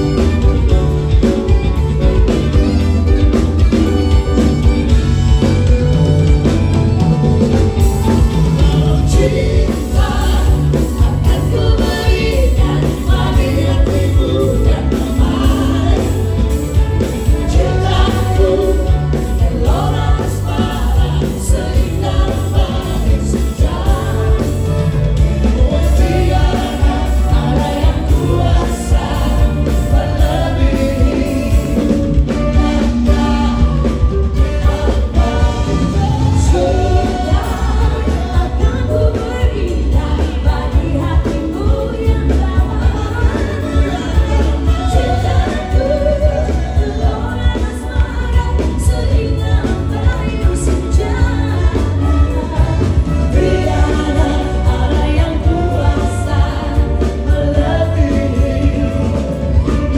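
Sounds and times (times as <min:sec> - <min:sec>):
pop band music with singing: 0:00.0 - 0:59.9.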